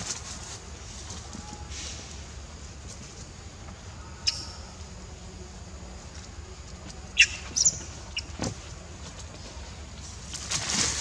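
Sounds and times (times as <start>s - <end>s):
low background hum: 0.0s - 11.0s
rustle of leaves and undergrowth: 0.0s - 11.0s.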